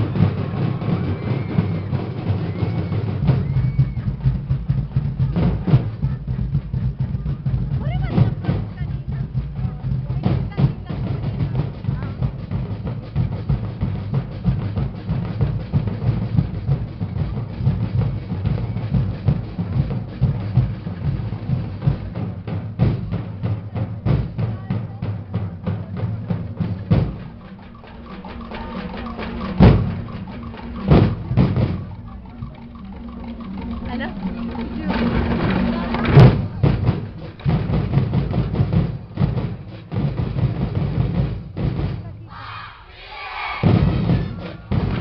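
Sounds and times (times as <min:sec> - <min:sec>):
loud accented drum strikes: 0:00.0 - 0:42.2, 0:43.4 - 0:45.0
drum and percussion ensemble: 0:00.0 - 0:45.0.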